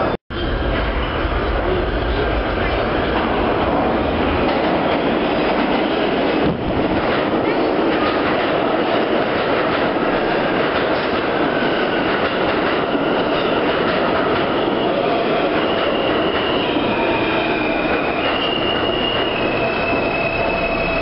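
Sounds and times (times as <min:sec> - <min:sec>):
subway train wheels rumbling: 0:00.0 - 0:21.0.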